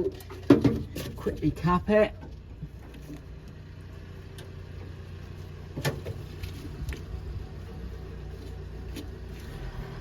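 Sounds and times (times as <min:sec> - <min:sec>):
steady low hum: 0:00.3 - 0:10.0.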